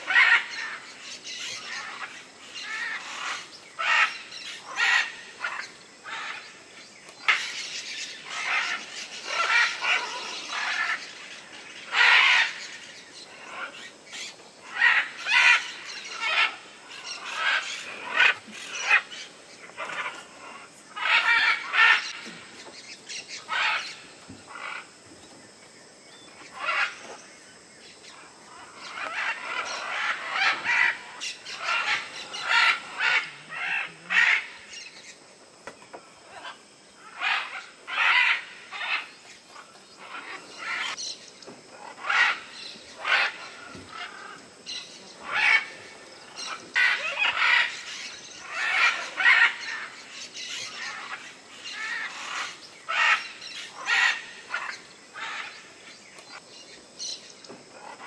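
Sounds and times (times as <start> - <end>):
parrots squawking: 0.0 - 6.5, 7.2 - 22.4, 23.3 - 24.8, 26.5 - 27.1, 28.5 - 34.9, 36.2 - 39.2, 40.0 - 41.0, 41.7 - 55.7.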